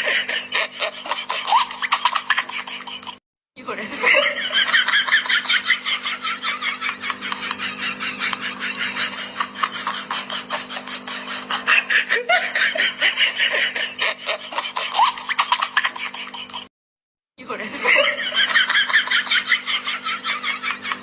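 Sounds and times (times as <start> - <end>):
staccato laughter: 0.0 - 3.2, 4.0 - 16.7, 17.8 - 21.0.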